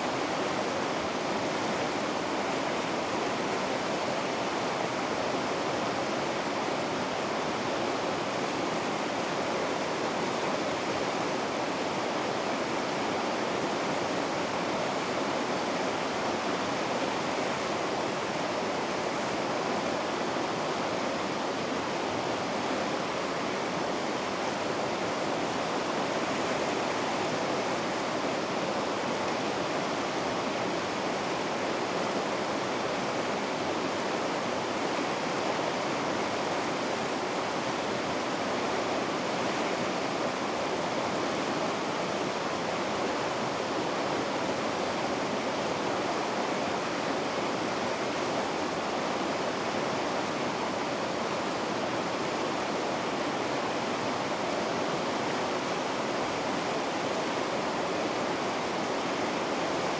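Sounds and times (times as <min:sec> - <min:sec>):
water rushing through rapids: 0:00.0 - 0:59.9.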